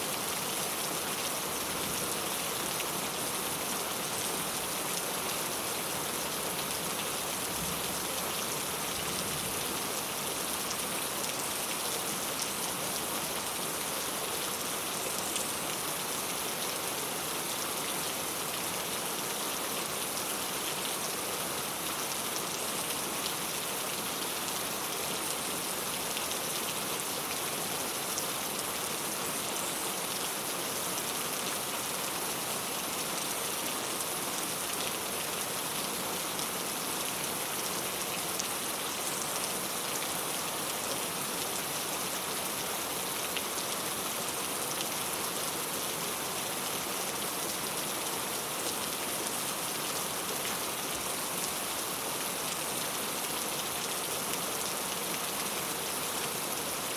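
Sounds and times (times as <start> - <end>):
rain on a tile roof: 0.0 - 56.9.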